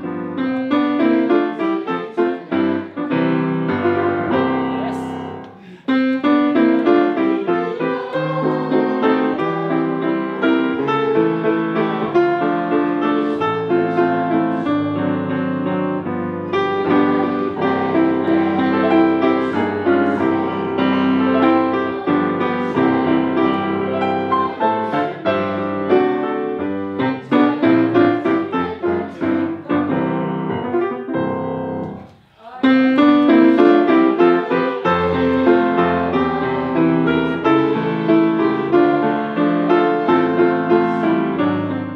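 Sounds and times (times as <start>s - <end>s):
grand piano playing: 0.0s - 41.9s.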